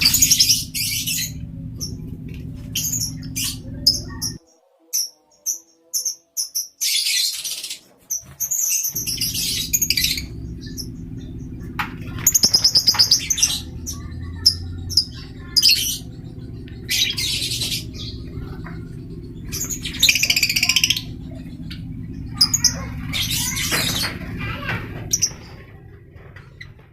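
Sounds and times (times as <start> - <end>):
lovebirds chattering: 0.0 - 4.4, 5.4 - 26.9
low hum: 0.0 - 4.4, 8.8 - 26.9.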